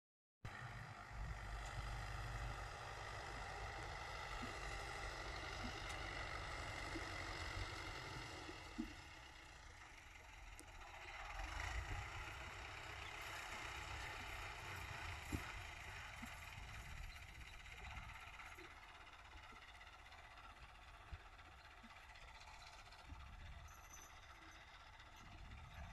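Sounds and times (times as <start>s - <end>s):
tractor diesel engine under load: 0.5s - 25.9s.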